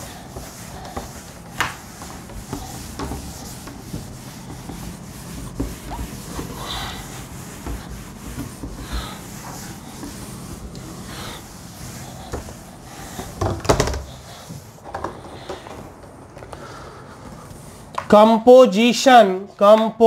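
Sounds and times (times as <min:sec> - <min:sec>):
duster wiping chalkboard: 0:00.0 - 0:18.8.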